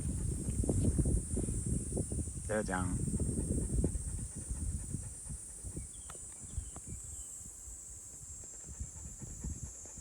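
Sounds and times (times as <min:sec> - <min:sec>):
insects chirring: 0:00.0 - 0:10.0
wind rumbling on microphone: 0:00.0 - 0:10.0.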